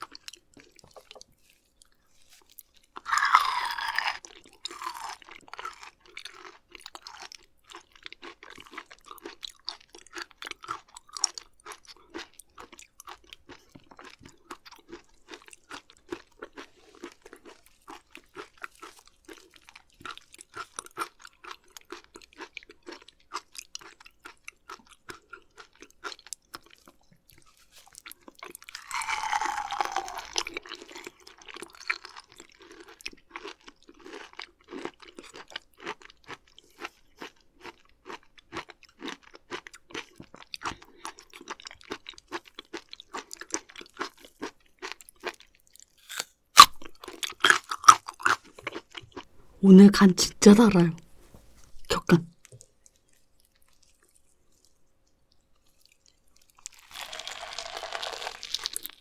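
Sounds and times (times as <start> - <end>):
wet chewing and crunching: 0.0 - 49.3, 51.6 - 59.0.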